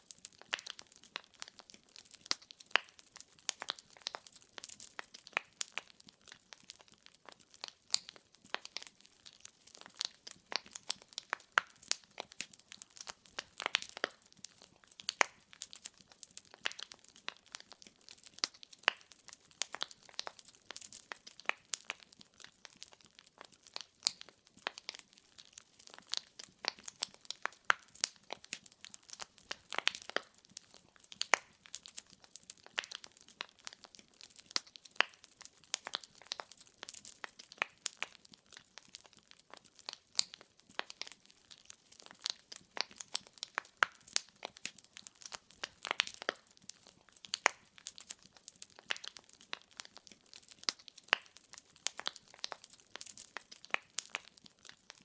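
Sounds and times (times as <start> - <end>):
firewood crackling in fireplace: 0.0 - 55.0.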